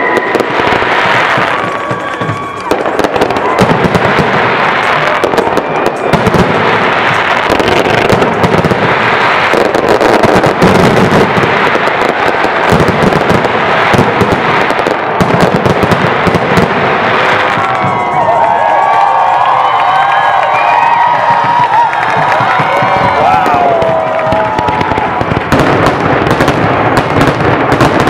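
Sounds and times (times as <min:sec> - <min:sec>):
fireworks banging and crackling: 0:00.0 - 0:28.0.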